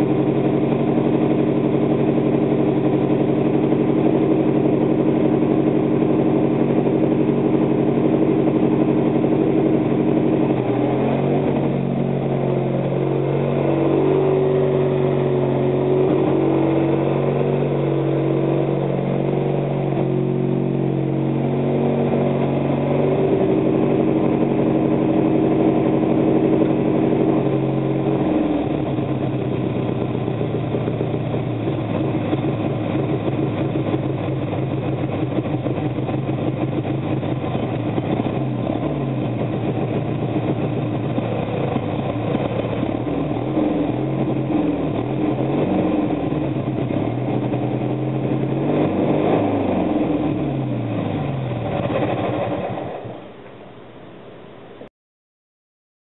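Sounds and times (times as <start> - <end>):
lawn tractor engine running: 0.0 - 53.5.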